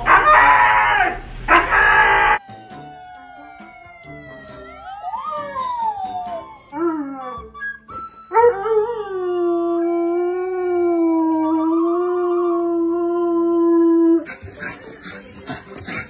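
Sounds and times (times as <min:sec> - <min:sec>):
dog howling: 0:00.0 - 0:14.3.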